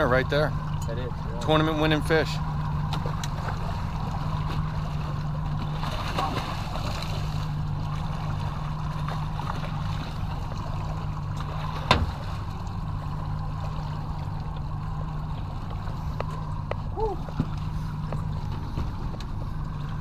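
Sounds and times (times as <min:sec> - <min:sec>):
outboard motor idling: 0:00.0 - 0:20.0
water splashing: 0:00.0 - 0:20.0.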